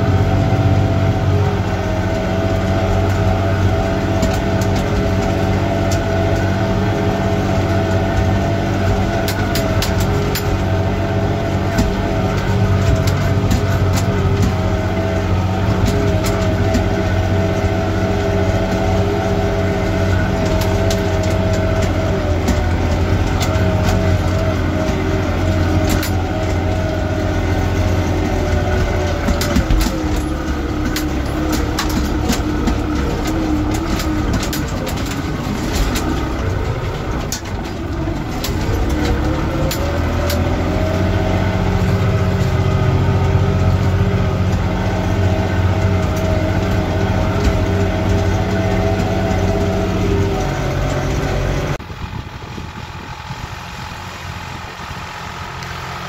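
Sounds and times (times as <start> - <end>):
tractor engine running: 0.0 - 56.0
clicks and rattles: 2.2 - 51.8.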